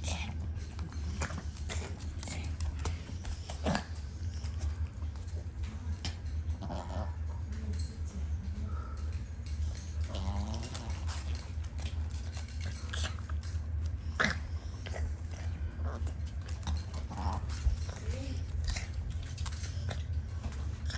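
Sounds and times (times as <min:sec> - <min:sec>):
dog throaty sound: 0:00.0 - 0:04.6, 0:06.0 - 0:07.5, 0:09.7 - 0:20.9
steady low hum: 0:00.0 - 0:20.9.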